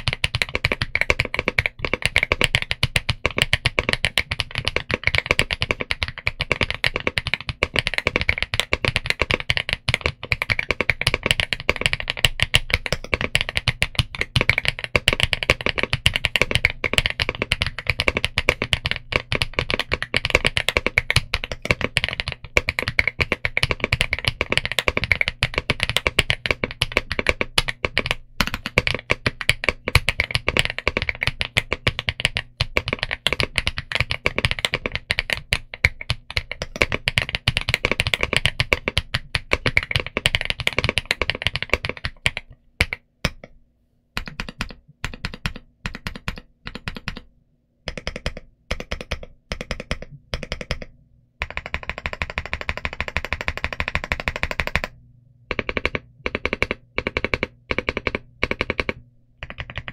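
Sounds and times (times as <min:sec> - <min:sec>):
mechanical keyboard typing: 0:00.0 - 0:43.5, 0:44.2 - 0:47.3, 0:47.9 - 0:59.9.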